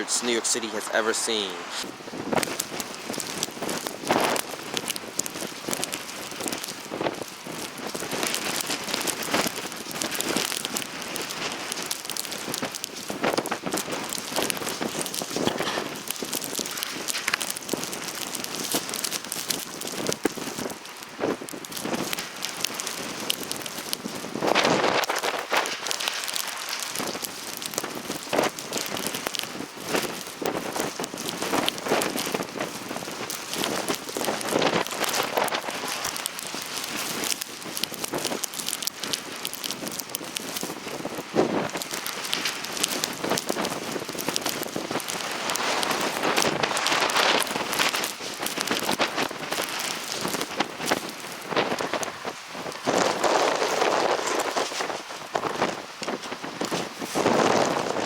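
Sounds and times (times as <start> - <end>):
crackling ticks of snow grains: 0.0 - 58.0
snowstorm hiss: 0.0 - 58.0.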